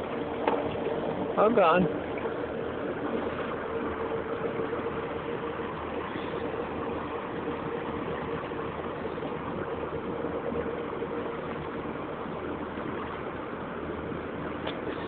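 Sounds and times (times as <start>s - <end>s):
boat motor humming: 0.0s - 15.0s
water noise: 0.0s - 15.0s.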